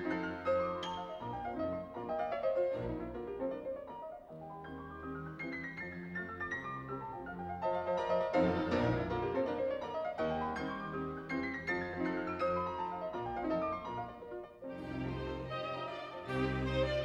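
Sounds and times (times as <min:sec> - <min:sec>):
classical piano music: 0:00.0 - 0:17.0.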